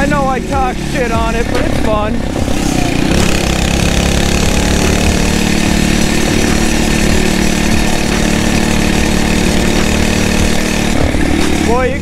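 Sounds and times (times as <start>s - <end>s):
motorized bicycle engine running: 0.0s - 12.0s.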